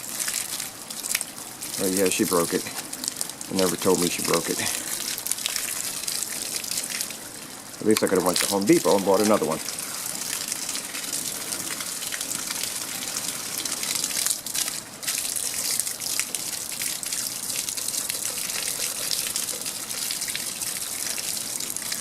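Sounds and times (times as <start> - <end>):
water gushing from hose: 0.0 - 22.0.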